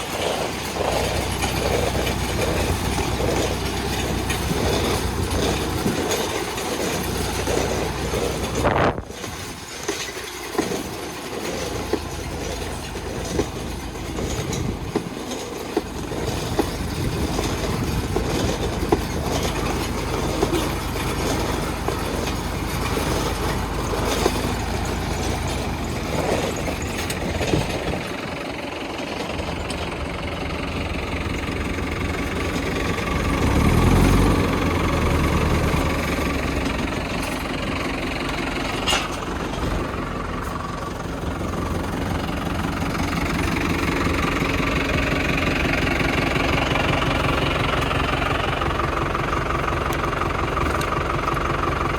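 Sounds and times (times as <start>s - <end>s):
metallic clicking and rattling: 0.0s - 51.9s
tractor engine running: 0.0s - 51.9s.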